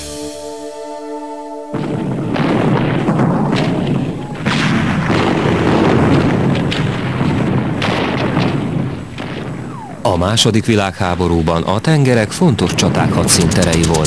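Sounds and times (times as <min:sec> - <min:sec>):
naval gunfire rumbling barrage: 0:01.7 - 0:14.0
shell explosions: 0:01.7 - 0:14.0.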